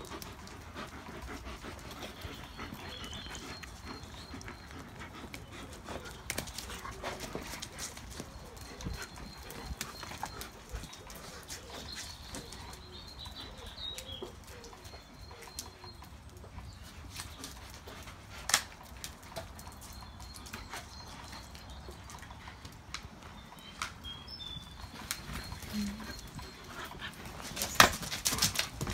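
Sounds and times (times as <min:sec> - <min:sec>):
paws scraping and clicking: 0:00.0 - 0:28.9.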